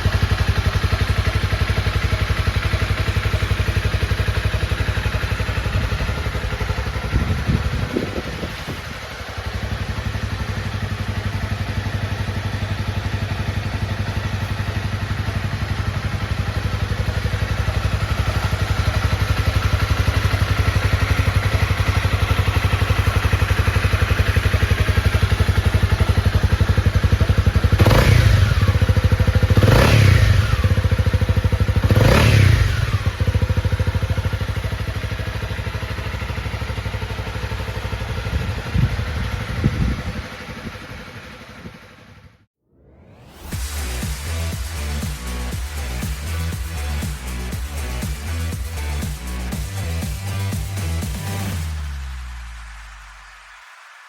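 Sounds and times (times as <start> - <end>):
motorcycle engine idling: 0.0 - 42.5, 43.6 - 52.5.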